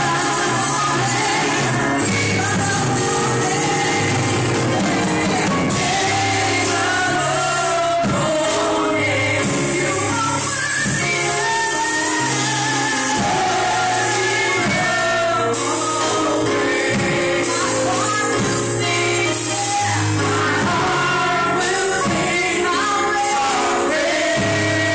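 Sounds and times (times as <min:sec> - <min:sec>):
voices singing over a band: 0:00.0 - 0:24.9.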